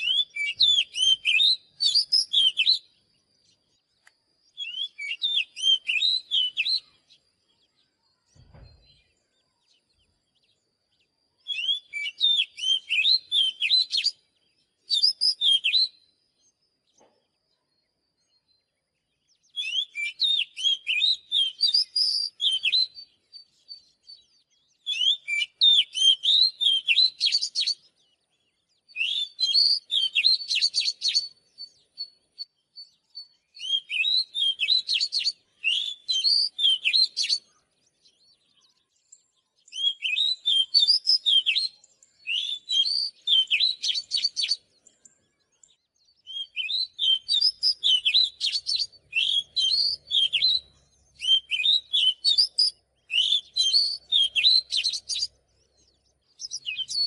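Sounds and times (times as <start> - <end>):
bird singing whistled phrases: 0.0 - 16.7, 17.7 - 57.0.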